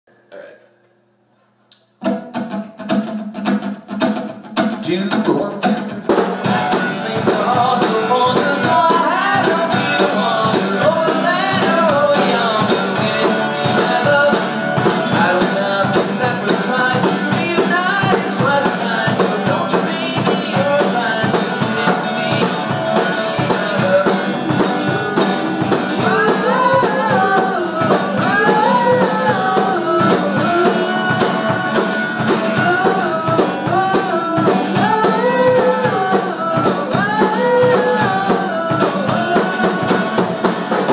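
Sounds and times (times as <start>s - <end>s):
acoustic guitar: 1.3s - 40.9s
drum kit: 1.9s - 40.9s
man singing: 4.8s - 40.9s.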